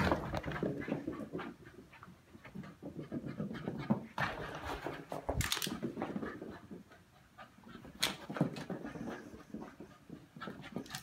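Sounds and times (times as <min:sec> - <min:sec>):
dog panting: 0:00.4 - 0:11.0.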